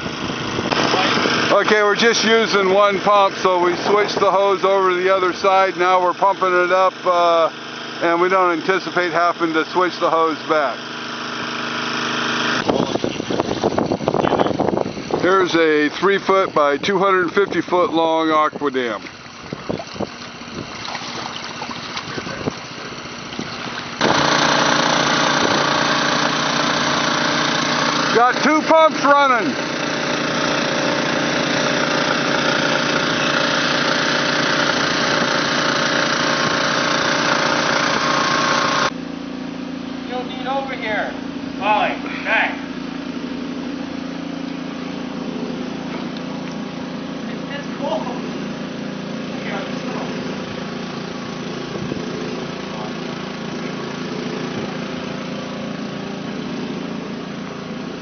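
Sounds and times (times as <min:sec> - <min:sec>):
engine-driven water pumps running: 0:00.0 - 0:58.0.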